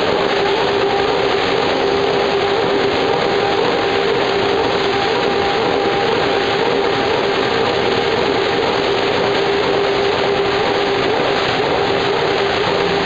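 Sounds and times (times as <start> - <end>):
production line machinery din: 0.0 - 13.0.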